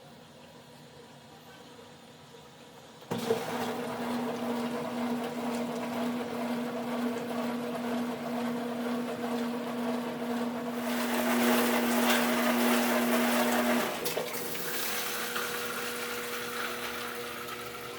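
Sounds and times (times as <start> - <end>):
dishwasher pump humming: 2.4 - 17.9.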